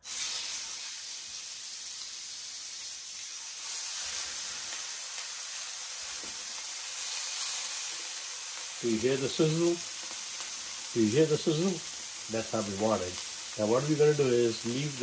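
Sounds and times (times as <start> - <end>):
steaks sizzling in a pan: 0.0 - 15.0.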